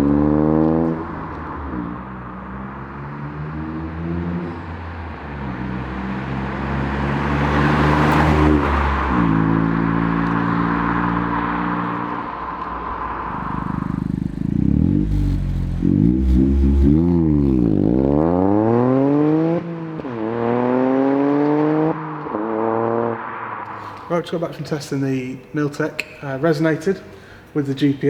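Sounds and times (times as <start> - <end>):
car engine revving: 0.0 - 26.1
road and wind noise: 0.0 - 28.0.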